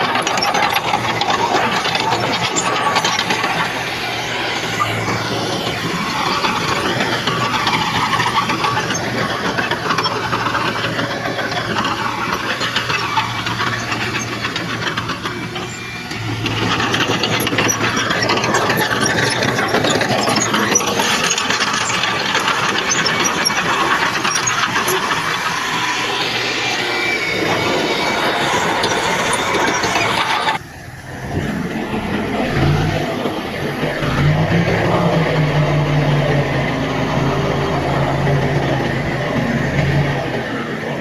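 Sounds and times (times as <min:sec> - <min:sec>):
diesel engine running: 0:00.0 - 0:41.0
high metallic squeals: 0:00.0 - 0:41.0
steel tracks clattering: 0:00.0 - 0:41.0.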